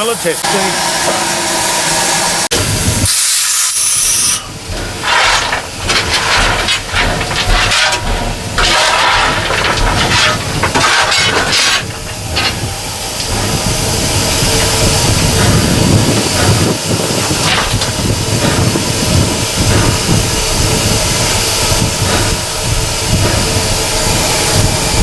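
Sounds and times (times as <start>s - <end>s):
steam locomotive hissing: 0.0s - 25.0s
low rumble: 4.4s - 25.0s.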